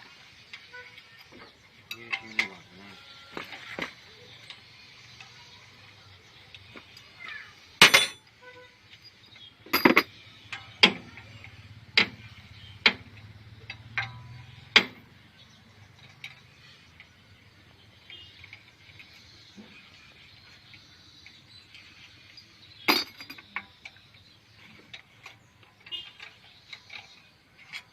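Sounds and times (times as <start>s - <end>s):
hand tools clinking on metal: 0.5s - 8.3s, 8.9s - 15.2s, 18.0s - 27.9s.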